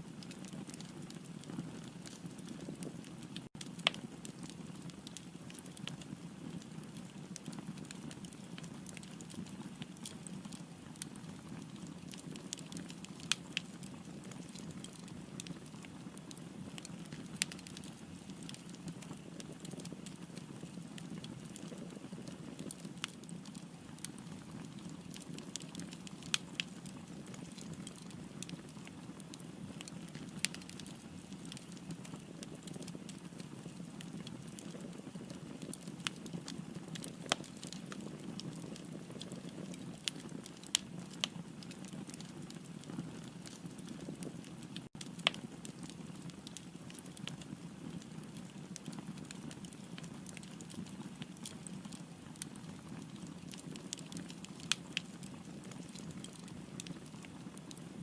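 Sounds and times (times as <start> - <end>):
fire popping and snapping: 0.1 - 58.0.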